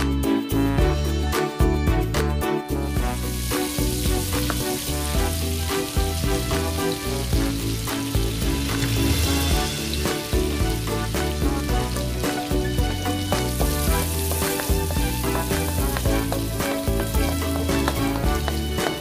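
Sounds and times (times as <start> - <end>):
background music: 0.0 - 19.0
butter sizzling in a wok: 3.0 - 19.0.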